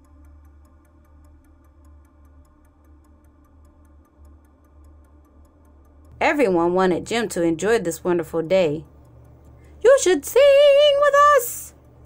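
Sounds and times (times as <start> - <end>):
faint steady ticking: 0.0 - 12.0
low hum: 0.0 - 12.0.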